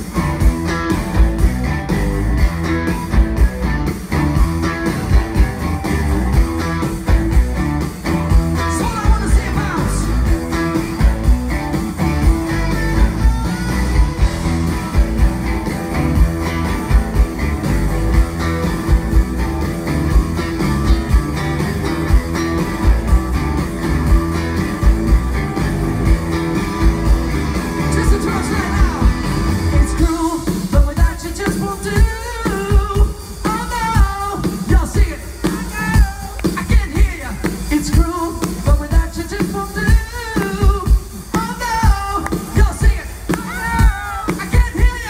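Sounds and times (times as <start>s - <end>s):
bass: 0.0s - 45.0s
drum beat: 0.0s - 45.0s
lead electric guitar: 0.0s - 45.0s.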